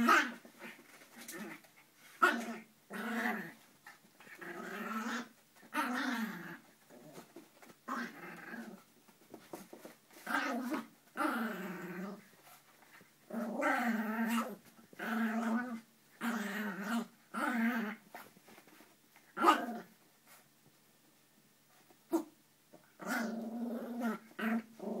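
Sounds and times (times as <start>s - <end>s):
puppy play-growling: 0.0s - 20.4s, 21.8s - 25.0s.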